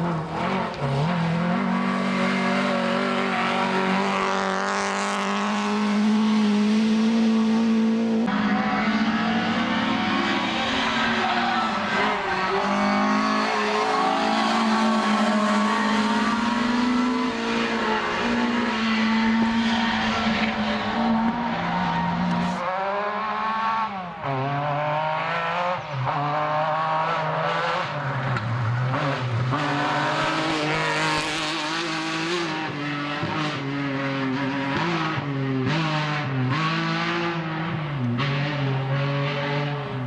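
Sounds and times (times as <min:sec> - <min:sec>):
rally car engines revving: 0:00.0 - 0:40.0.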